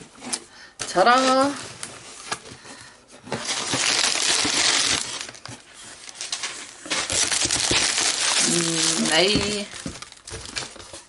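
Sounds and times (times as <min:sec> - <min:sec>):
newspaper packing rustling: 0:00.2 - 0:11.0.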